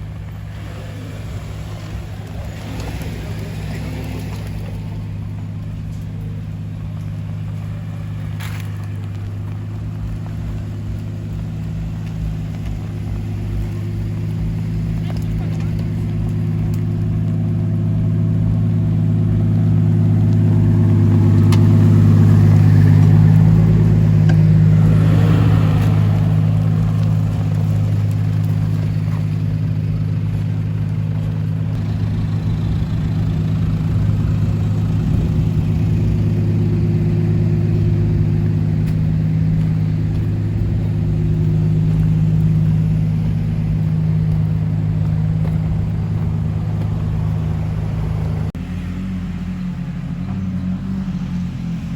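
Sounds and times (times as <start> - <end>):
vehicle engine droning: 0.0 - 51.9.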